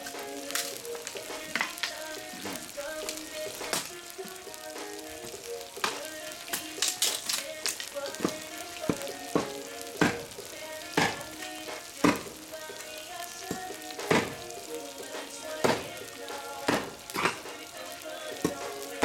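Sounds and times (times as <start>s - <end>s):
faint background music: 0.0s - 19.0s
meat and onions sizzling in oil: 0.0s - 19.0s
oil popping and spattering: 0.0s - 19.0s.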